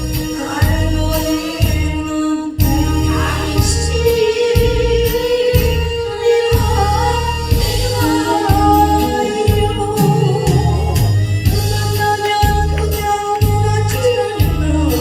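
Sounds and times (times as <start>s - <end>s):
music with steady beat: 0.0s - 15.0s
person singing: 0.0s - 15.0s.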